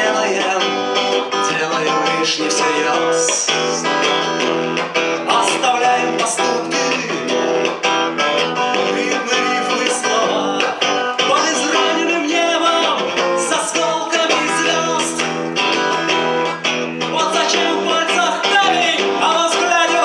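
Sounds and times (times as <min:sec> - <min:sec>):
guitar strumming: 0:00.0 - 0:20.0.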